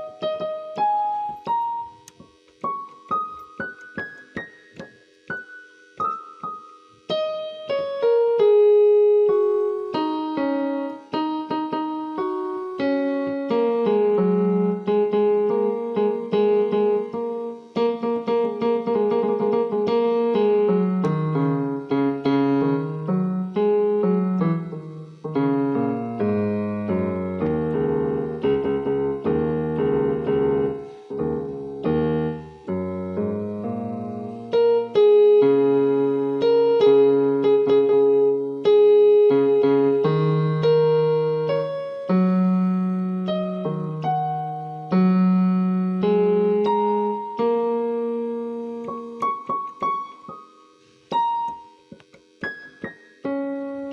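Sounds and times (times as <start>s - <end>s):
slow piano music: 0.0s - 53.9s.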